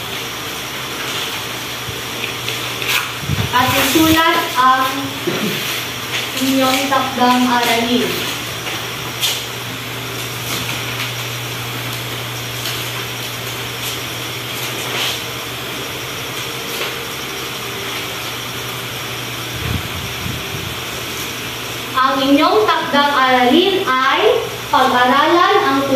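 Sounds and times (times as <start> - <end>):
paper sheets rustling: 0.0 - 21.4
mechanical drone and hiss: 0.0 - 25.9.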